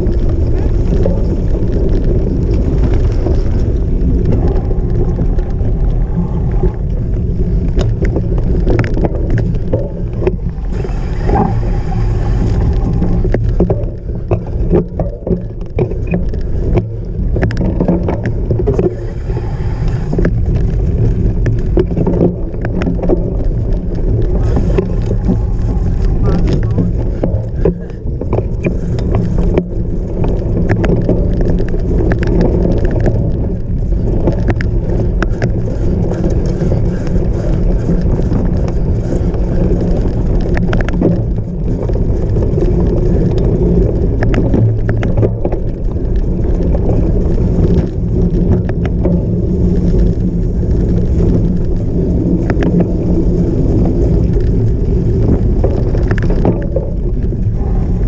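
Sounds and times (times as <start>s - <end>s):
bike rattling and clicking: 0.0s - 58.0s
rumble of wind and tyres: 0.0s - 58.0s.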